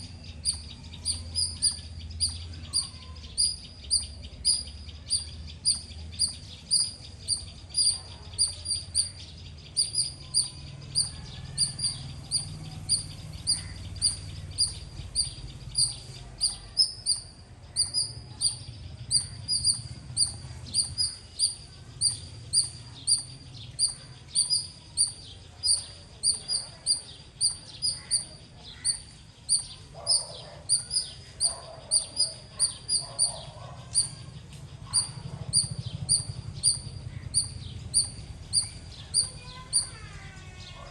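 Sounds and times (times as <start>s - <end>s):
squirrel chirping: 0.0s - 40.9s.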